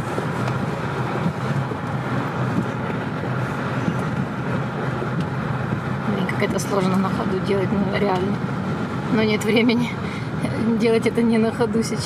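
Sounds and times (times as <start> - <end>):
car road noise on wet road: 0.0 - 12.0.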